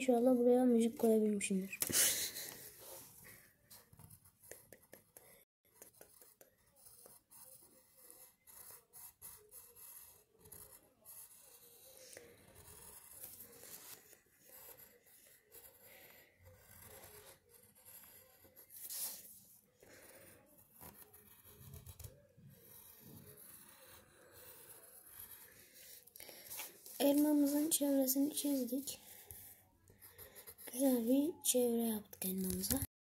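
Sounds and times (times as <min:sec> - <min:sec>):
pencil scratching on paper: 0:02.1 - 0:32.9.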